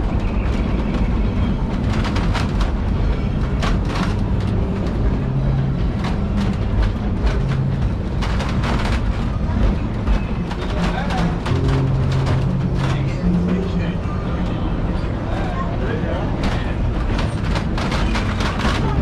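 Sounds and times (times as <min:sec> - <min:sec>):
train rumbling on track: 0:00.0 - 0:19.0
wheels and car rattling: 0:00.0 - 0:19.0.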